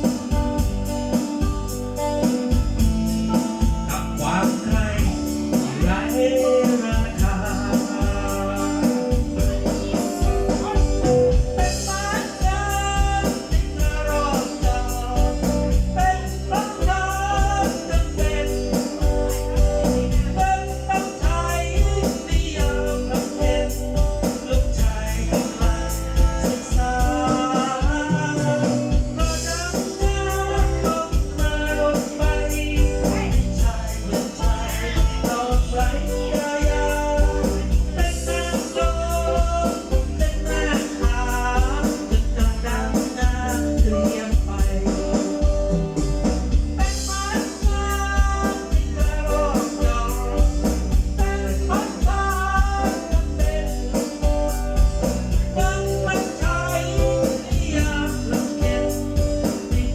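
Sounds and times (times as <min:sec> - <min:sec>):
song over heavy bass beat: 0:00.0 - 0:59.9.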